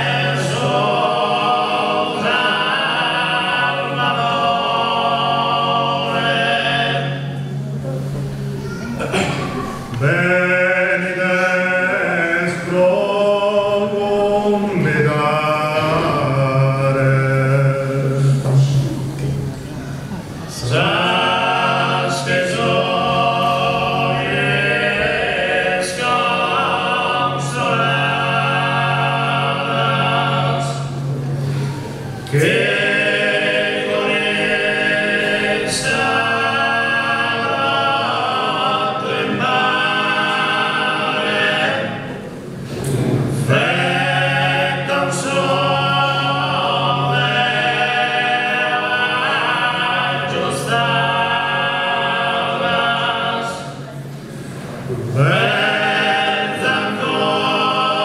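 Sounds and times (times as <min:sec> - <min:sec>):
men singing in close harmony: 0:00.0 - 0:07.6, 0:10.0 - 0:18.6, 0:20.5 - 0:31.2, 0:31.8 - 0:58.0.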